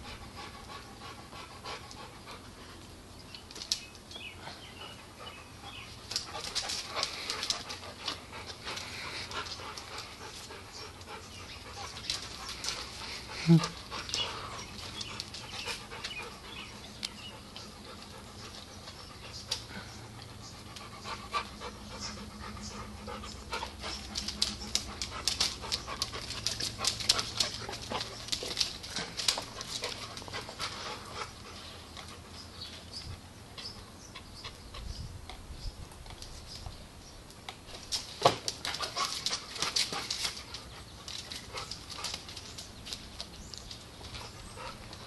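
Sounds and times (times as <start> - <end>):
dogs panting: 0.0 - 3.1, 4.1 - 35.0, 37.9 - 45.0.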